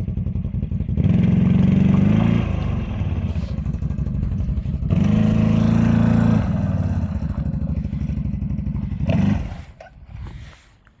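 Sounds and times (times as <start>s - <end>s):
engine revving: 0.0s - 9.9s.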